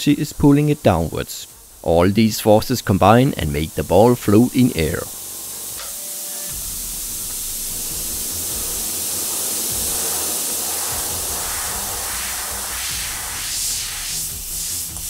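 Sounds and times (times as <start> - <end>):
compressed air hissing: 0.0 - 15.0.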